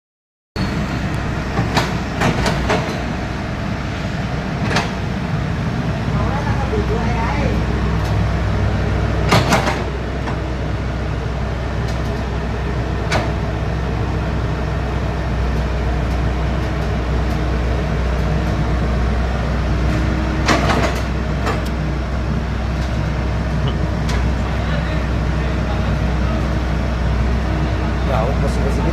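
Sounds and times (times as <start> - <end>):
excavator diesel engine running: 0.6 - 28.9.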